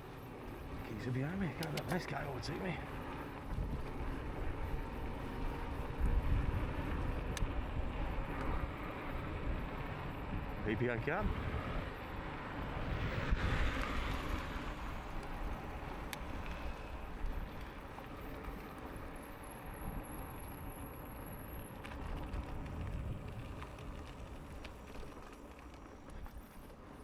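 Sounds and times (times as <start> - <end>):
wind rush and tyre noise: 0.0 - 27.0.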